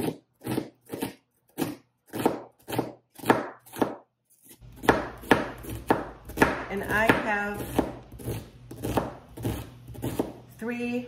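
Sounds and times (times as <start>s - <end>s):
knife chopping onion on board: 0.0s - 11.0s.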